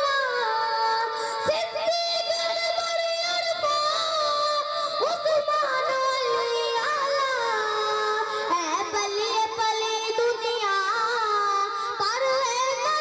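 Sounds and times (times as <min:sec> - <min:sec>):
boy singing into a microphone: 0:00.0 - 0:13.0.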